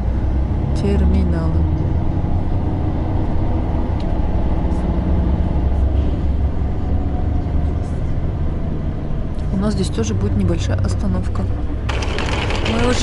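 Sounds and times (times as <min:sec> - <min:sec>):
bus engine rumble: 0:00.0 - 0:13.0
road noise: 0:00.0 - 0:13.0.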